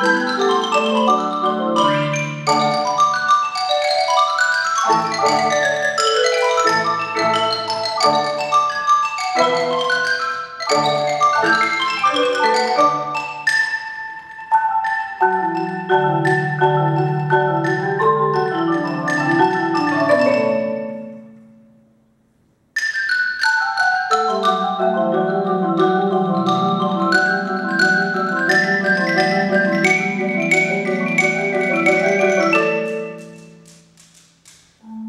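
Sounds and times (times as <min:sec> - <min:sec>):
marimba and xylophone ensemble: 0:00.0 - 0:35.0.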